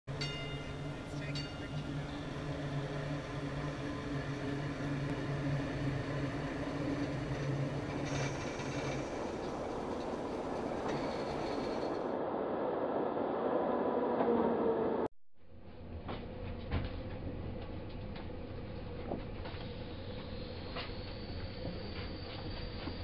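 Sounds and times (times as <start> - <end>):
streetcar low hum: 0.1 - 23.0
wheels rumbling on rails: 0.1 - 23.0.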